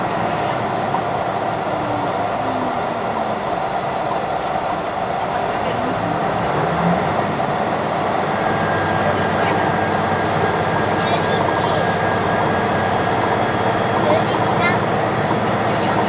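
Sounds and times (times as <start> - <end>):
train engine and wheels drone: 0.0 - 16.0.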